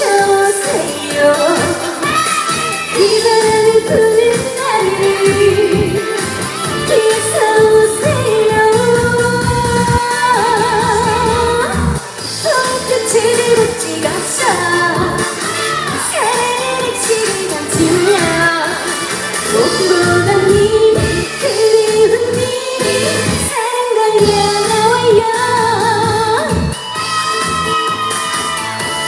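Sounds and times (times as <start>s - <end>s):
woman singing: 0.0s - 26.8s
backing track music: 0.0s - 29.0s.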